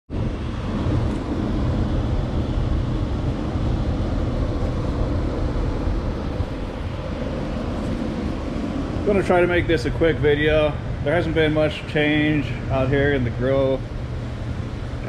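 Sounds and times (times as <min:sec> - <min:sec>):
low rumbling noise: 0:00.1 - 0:15.0.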